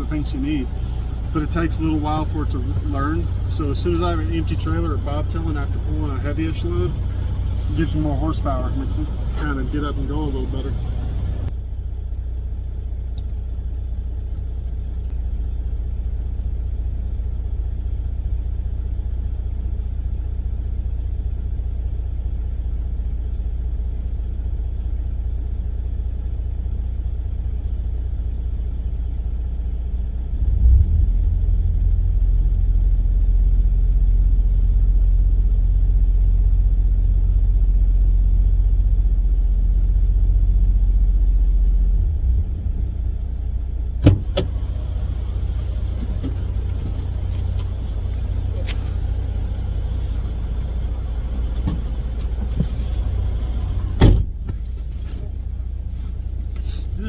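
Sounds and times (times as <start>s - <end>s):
truck engine drone from cab: 0.0s - 57.0s.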